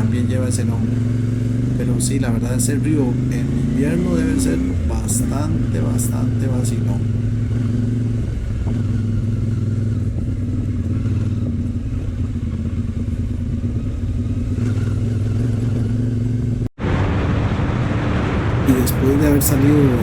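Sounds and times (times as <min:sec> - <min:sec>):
motorcycle engine running steadily: 0:00.0 - 0:16.7.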